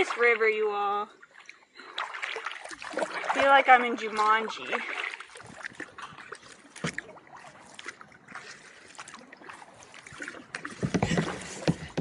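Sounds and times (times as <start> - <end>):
small water splashes: 0.0 - 12.0
water dripping off paddle: 1.2 - 11.9.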